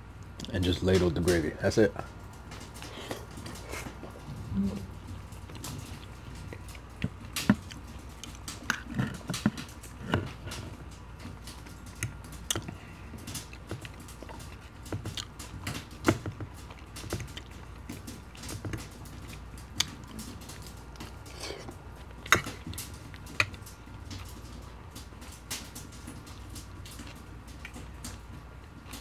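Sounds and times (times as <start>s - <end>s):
chewing and wet mouth sounds: 0.1s - 0.6s, 1.9s - 29.0s.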